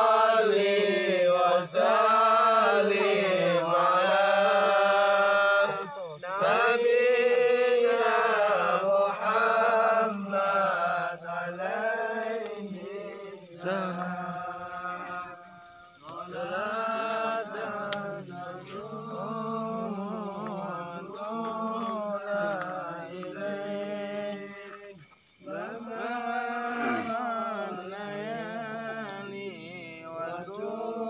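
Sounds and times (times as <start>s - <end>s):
person chanting in held notes: 0.0s - 31.0s.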